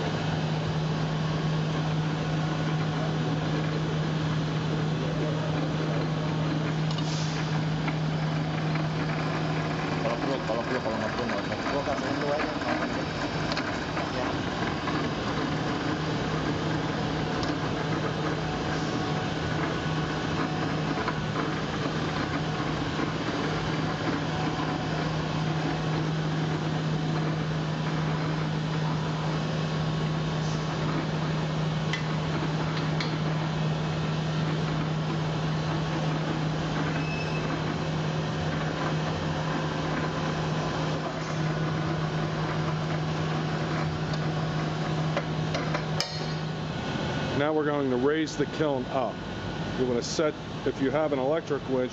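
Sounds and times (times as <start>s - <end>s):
mechanical hum: 0.0s - 51.9s.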